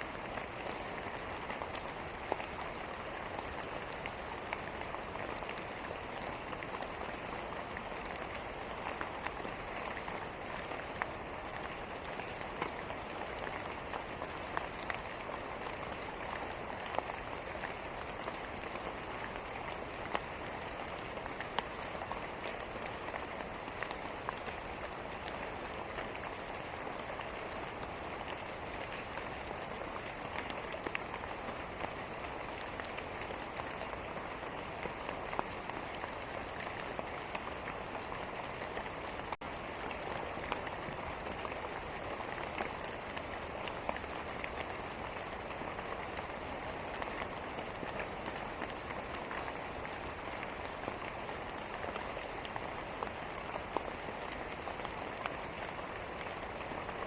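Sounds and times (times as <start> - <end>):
rain drop ticks: 0.0 - 57.0
steady rain falling: 0.0 - 57.0.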